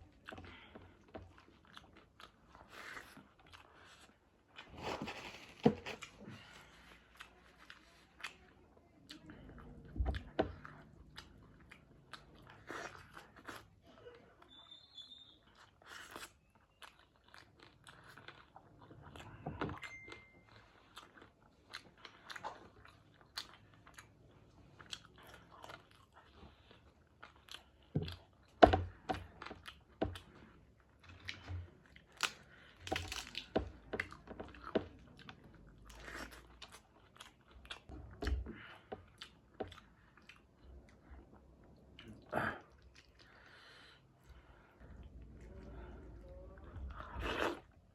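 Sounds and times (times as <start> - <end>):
person chewing and crunching: 0.5 - 8.5, 9.1 - 13.8, 15.5 - 38.0, 38.6 - 43.6, 46.9 - 47.9.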